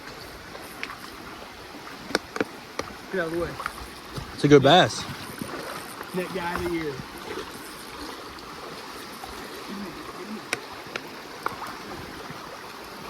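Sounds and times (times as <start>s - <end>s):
lake water lapping: 0.0s - 13.0s.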